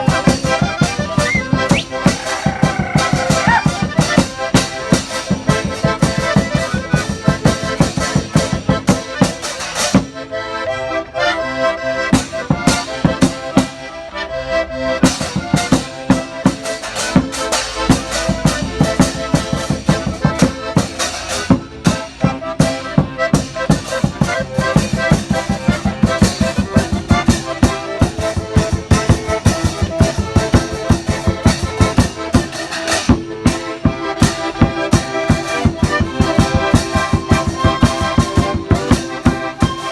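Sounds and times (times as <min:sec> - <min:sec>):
accordion playing lively tune: 0:00.0 - 0:39.9.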